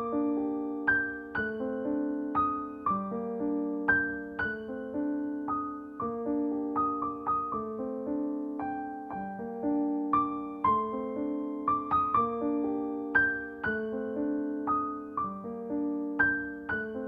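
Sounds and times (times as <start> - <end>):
soft piano melody: 0.0 - 17.0.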